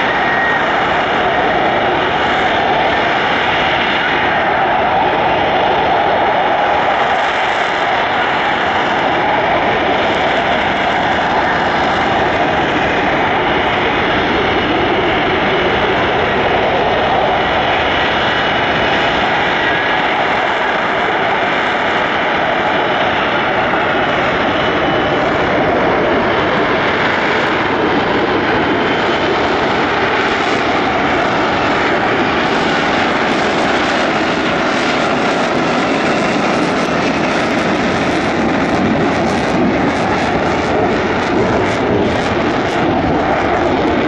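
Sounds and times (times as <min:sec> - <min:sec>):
loud steady jet noise: 0:00.0 - 0:44.0.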